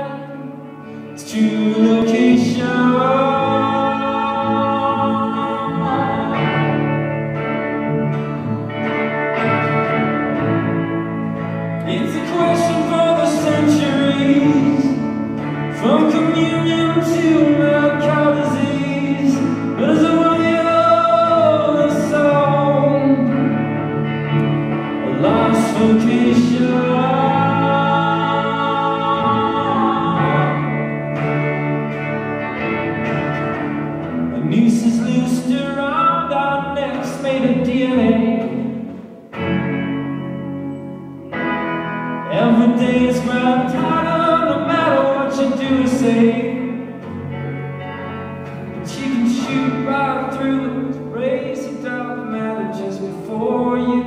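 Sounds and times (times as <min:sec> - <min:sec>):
man singing: 0:00.0 - 0:08.4, 0:09.0 - 0:39.7, 0:42.2 - 0:47.4, 0:48.5 - 0:54.0.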